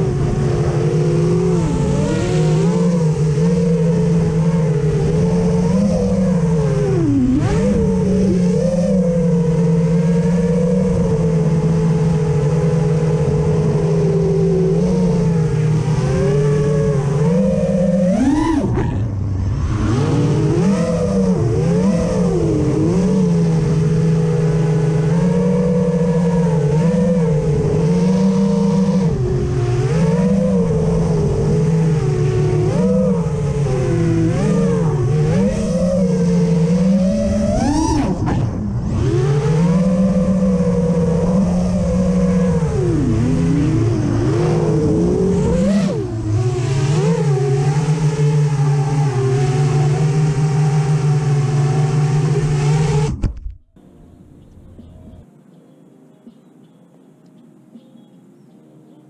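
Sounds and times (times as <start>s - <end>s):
quadcopter motors buzzing: 0.0s - 53.4s.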